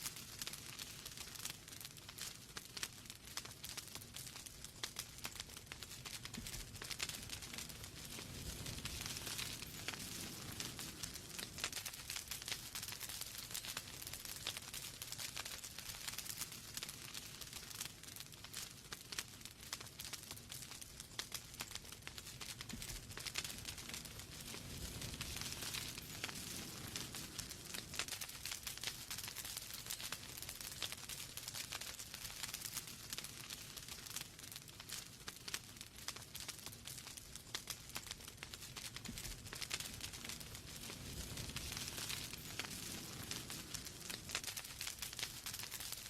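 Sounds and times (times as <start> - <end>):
flames hissing and rumbling: 0.0 - 46.0
logs crackling and popping: 0.0 - 46.0.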